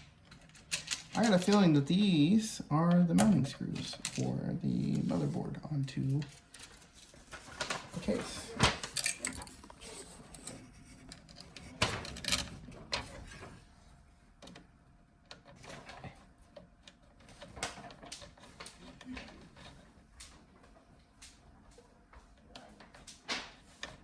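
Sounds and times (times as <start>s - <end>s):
clicks and rattles of computer parts: 0.0s - 2.2s, 2.9s - 13.6s, 14.4s - 24.0s.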